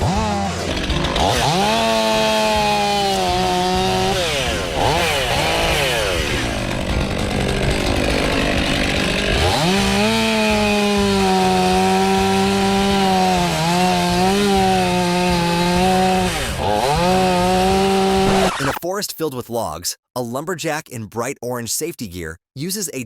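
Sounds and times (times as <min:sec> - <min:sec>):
two-stroke chainsaw revving: 0:00.0 - 0:18.8.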